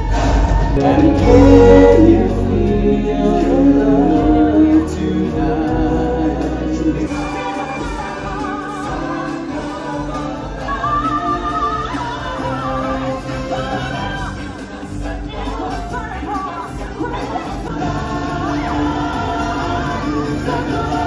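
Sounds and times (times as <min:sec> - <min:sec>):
band accompaniment: 0:00.0 - 0:21.0
singers in chorus: 0:00.0 - 0:21.0.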